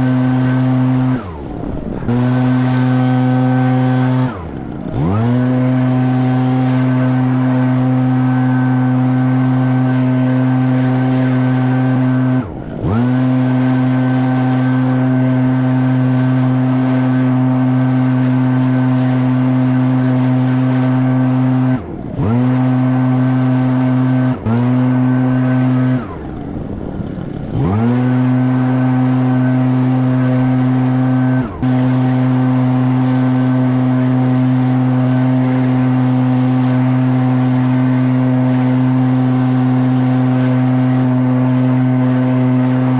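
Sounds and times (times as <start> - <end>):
leaf blower engine: 0.0 - 42.9.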